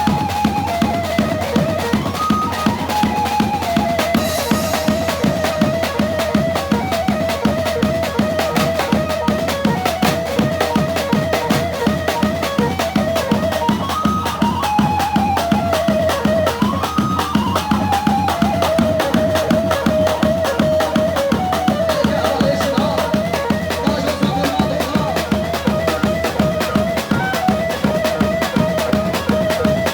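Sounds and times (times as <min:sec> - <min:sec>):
fast drum beat with bass drum: 0:00.0 - 0:29.9
ornamented melody line: 0:01.1 - 0:29.9.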